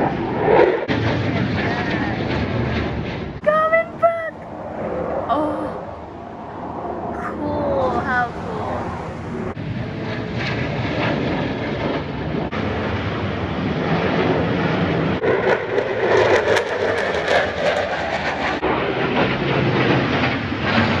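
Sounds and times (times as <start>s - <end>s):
jet roaring past: 0.0s - 21.0s.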